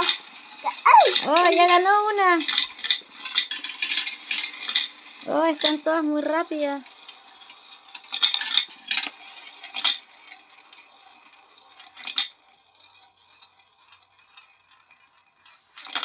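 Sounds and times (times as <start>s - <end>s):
marbles clattering down marble run: 0.8s - 15.2s.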